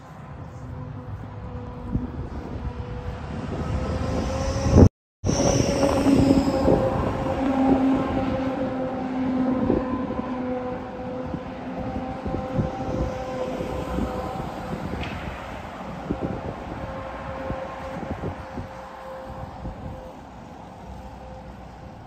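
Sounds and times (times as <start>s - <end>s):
low wind rumble: 0.0s - 22.0s
tow truck engine whine: 0.0s - 22.0s.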